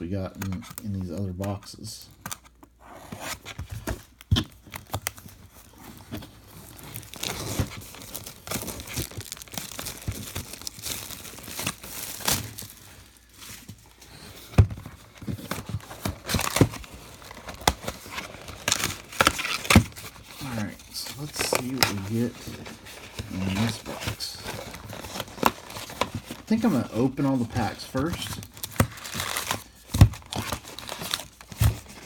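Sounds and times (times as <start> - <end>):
plastic wrapping tearing and crinkling: 3.2 - 32.0.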